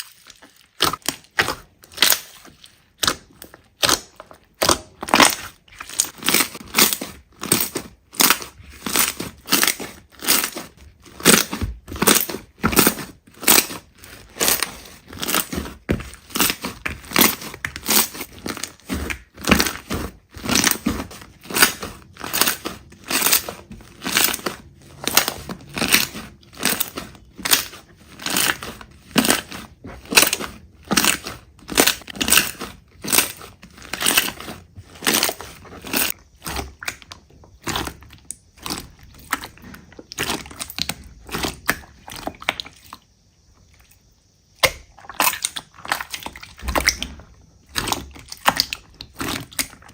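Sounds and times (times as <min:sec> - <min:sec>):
slime squishing and crackling: 0:00.0 - 0:43.0, 0:44.6 - 0:49.9.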